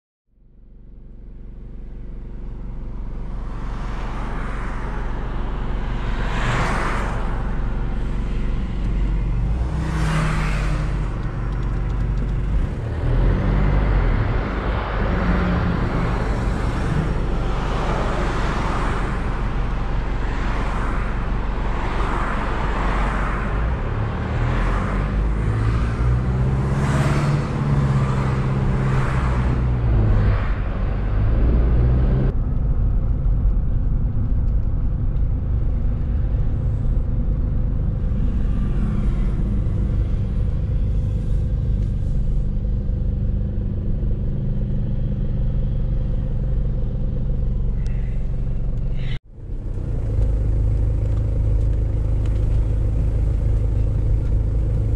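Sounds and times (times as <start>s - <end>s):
car engine and road noise: 0.3s - 54.9s.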